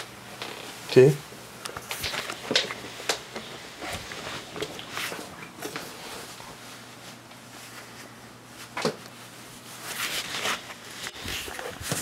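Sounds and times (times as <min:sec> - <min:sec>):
rustling: 0:01.8 - 0:12.0.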